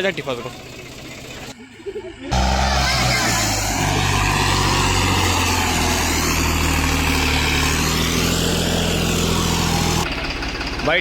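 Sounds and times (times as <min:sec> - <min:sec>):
tractor diesel engine droning: 0:00.0 - 0:01.6, 0:02.3 - 0:11.0.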